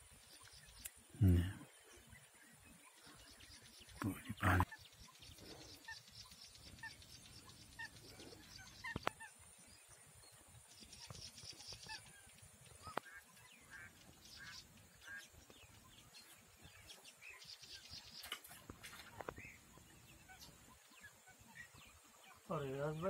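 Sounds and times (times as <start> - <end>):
distant bird chirps: 0.0 - 23.0.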